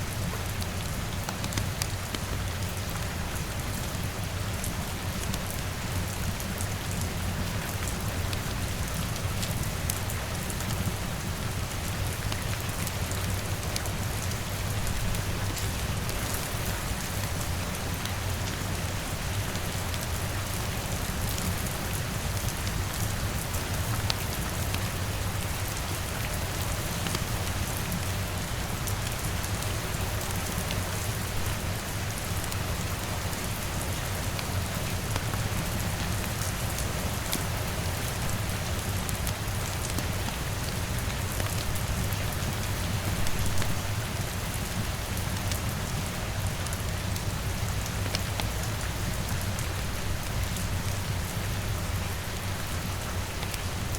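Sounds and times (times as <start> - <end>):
rain pattering on a window: 0.0 - 53.9.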